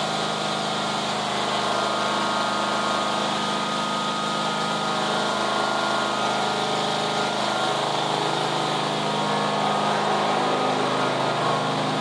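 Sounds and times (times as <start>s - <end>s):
mower engine idling: 0.0s - 12.0s.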